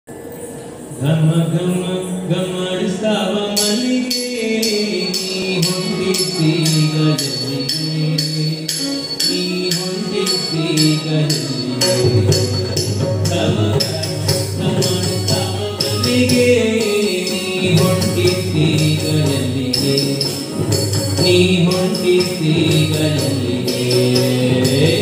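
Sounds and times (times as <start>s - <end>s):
bright metallic percussion: 0.1s - 25.0s.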